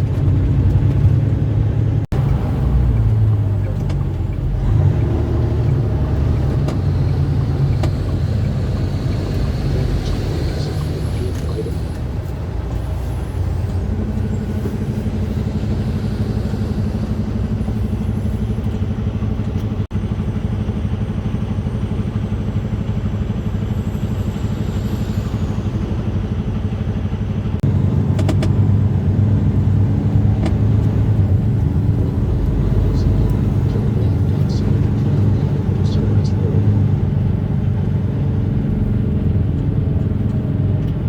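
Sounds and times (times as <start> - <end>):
road noise: 0.0 - 41.0
truck engine drone: 0.0 - 41.0.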